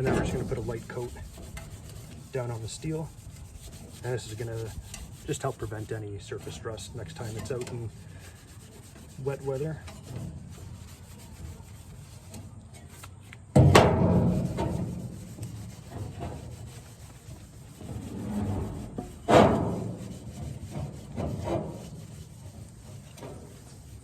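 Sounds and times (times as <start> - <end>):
sudden loud scrapes: 0.0 - 11.2, 14.0 - 23.9
towel rubbing on steel: 0.0 - 12.5, 14.3 - 24.0.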